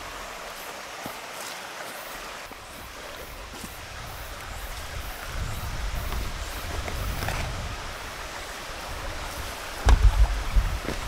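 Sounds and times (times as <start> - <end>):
stream running: 0.0 - 11.0.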